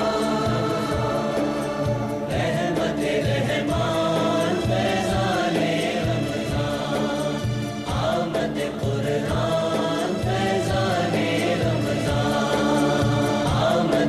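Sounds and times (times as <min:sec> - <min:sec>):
choir singing chant-like lines: 0:00.0 - 0:14.0
low musical accompaniment: 0:00.0 - 0:14.0.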